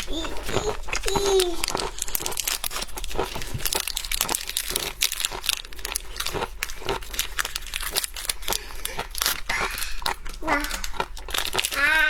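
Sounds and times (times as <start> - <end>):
shellfish shells crackling: 0.0 - 12.0.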